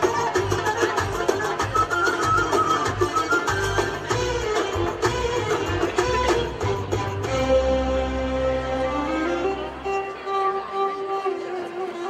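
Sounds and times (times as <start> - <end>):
belly dance music: 0.0 - 10.0.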